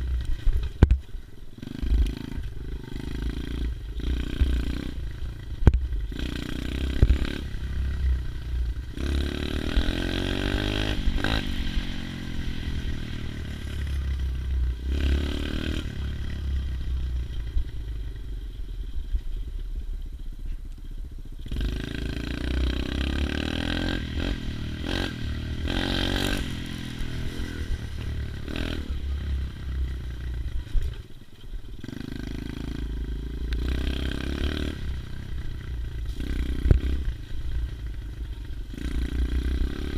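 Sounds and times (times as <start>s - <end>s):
pit bike engine revving: 1.6s - 17.7s, 21.4s - 30.7s, 31.8s - 39.9s.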